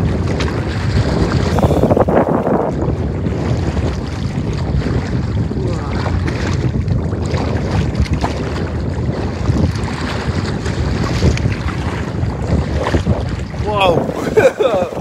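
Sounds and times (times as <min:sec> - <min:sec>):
waves splashing against kayak hull: 0:00.0 - 0:15.0
wind buffeting microphone: 0:00.0 - 0:15.0.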